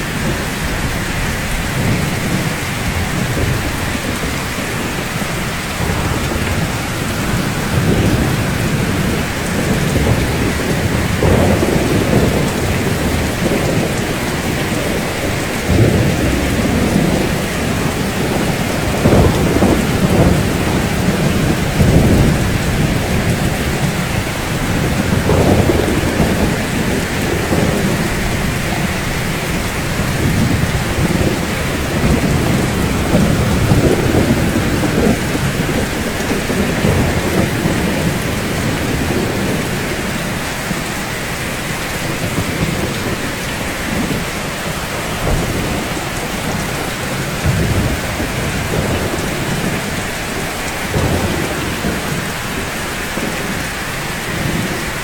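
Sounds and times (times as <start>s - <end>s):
heavy rain on rooftops: 0.0s - 55.0s
rolling thunder: 0.0s - 55.0s.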